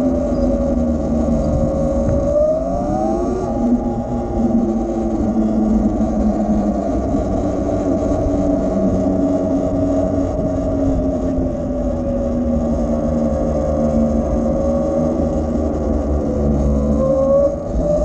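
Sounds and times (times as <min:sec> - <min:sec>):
electric motor whining: 0:00.0 - 0:18.0
wind and road noise: 0:00.0 - 0:18.0.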